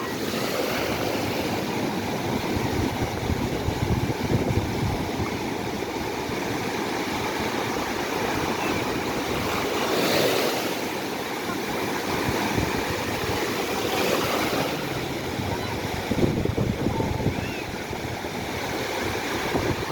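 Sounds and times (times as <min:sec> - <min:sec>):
waves breaking on beach: 0:00.0 - 0:19.9.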